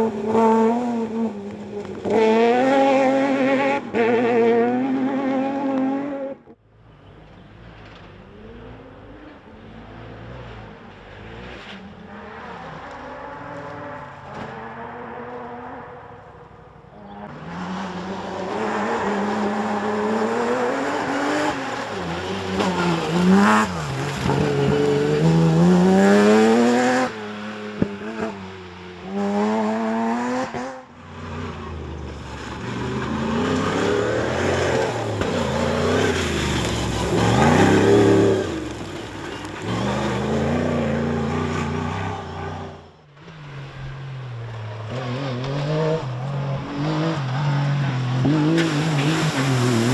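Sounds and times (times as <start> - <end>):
race car engines revving past: 0.0 - 49.9.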